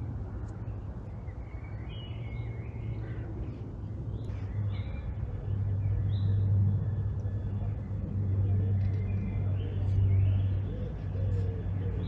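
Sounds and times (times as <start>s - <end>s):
low motor rumble: 0.0s - 12.0s
birds calling: 0.6s - 12.0s.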